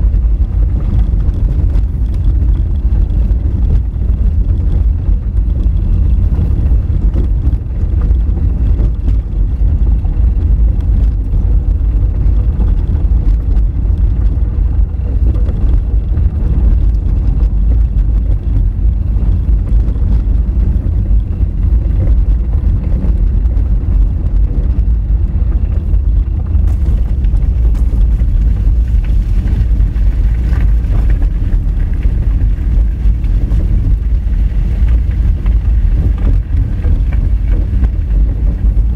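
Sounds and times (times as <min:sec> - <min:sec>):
car driving on rocky dirt road: 0:00.0 - 0:38.9.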